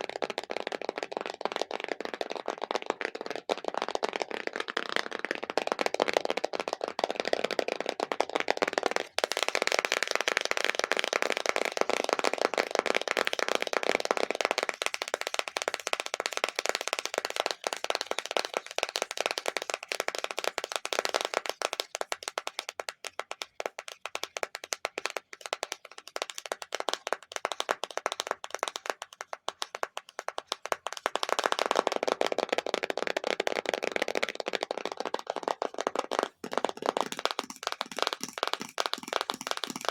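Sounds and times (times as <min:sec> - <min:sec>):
fast tapping on objects: 0:00.0 - 0:39.9.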